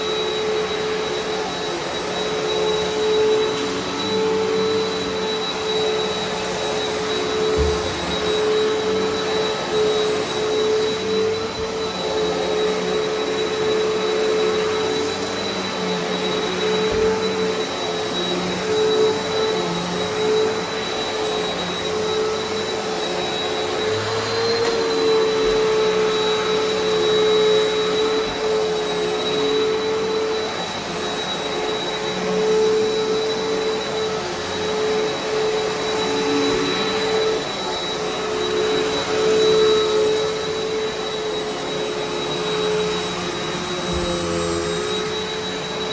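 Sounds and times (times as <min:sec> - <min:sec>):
vacuum cleaner running on carpet: 0:00.0 - 0:45.9.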